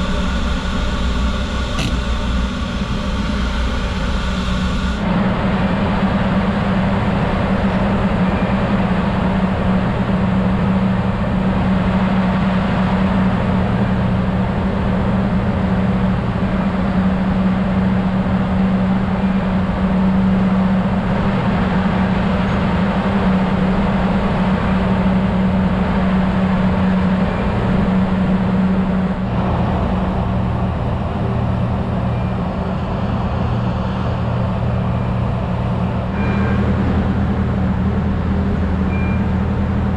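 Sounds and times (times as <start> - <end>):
engine machinery droning: 0.0 - 39.9.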